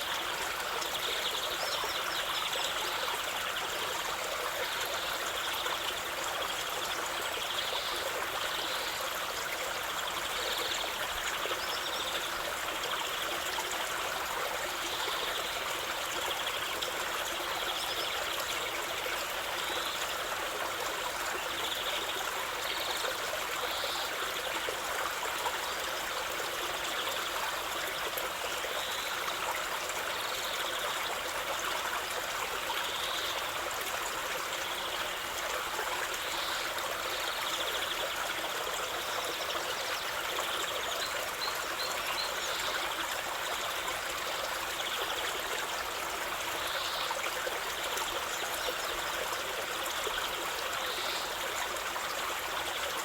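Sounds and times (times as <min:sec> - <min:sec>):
small stream trickling: 0:00.0 - 0:53.0.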